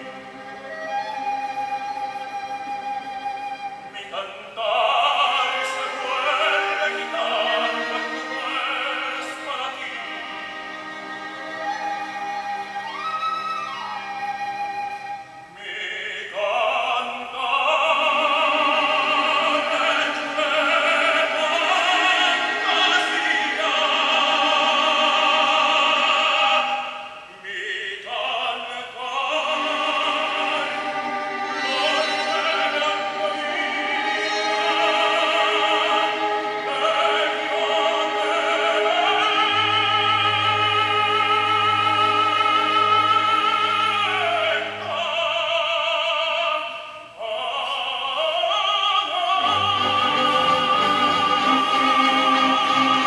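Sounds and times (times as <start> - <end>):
operatic tenor singing: 0.0 - 53.0
orchestra: 0.0 - 53.0.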